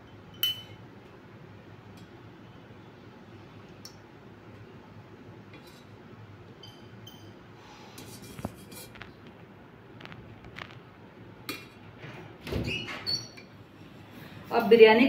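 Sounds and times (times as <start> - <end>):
faint steady hum: 0.0 - 12.5.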